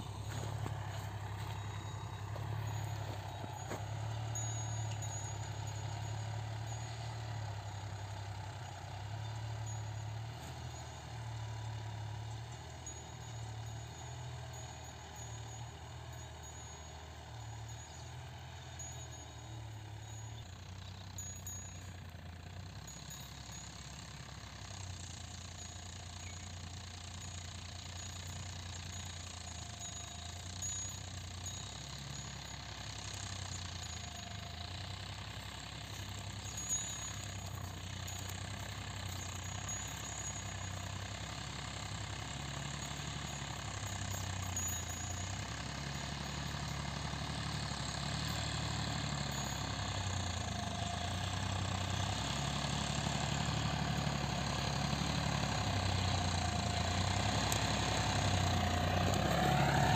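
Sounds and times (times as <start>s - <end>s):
tractor diesel engine drone: 0.0s - 59.9s.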